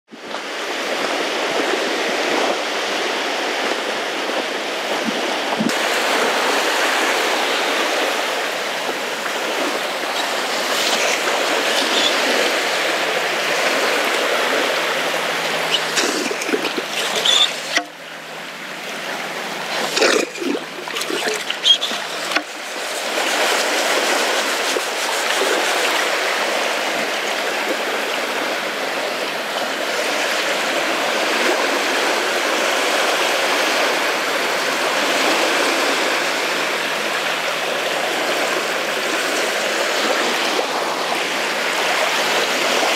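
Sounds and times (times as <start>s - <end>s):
water washing at shoreline: 0.1s - 42.9s
splashing and sloshing water: 0.3s - 42.9s.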